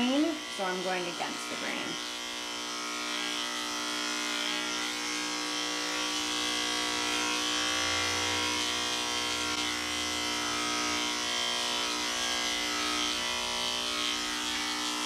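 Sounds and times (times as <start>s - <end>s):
electric clipper humming: 0.0s - 15.0s.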